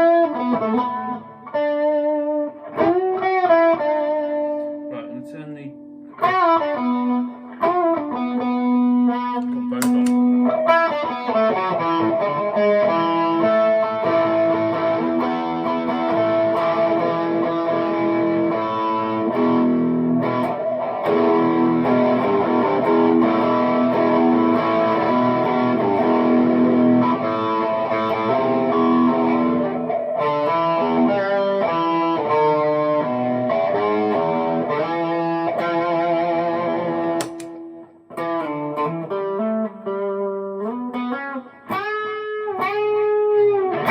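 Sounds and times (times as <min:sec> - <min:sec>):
overdriven electric guitar: 0:00.0 - 0:05.0, 0:05.7 - 0:43.9.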